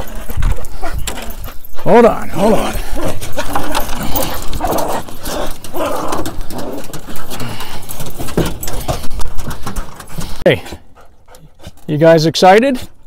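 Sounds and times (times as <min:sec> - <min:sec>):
dogs whining: 0:00.0 - 0:11.8.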